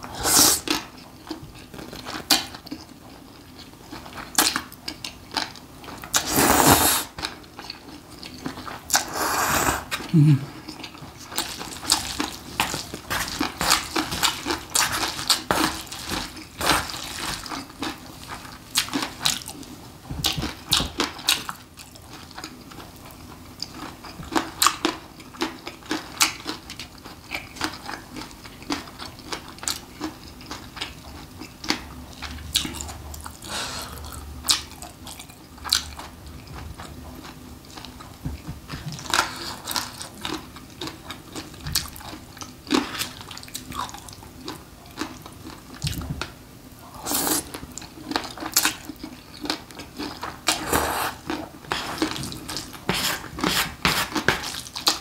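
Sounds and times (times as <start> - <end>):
person chewing noodles: 0.0 - 46.0, 46.7 - 55.0.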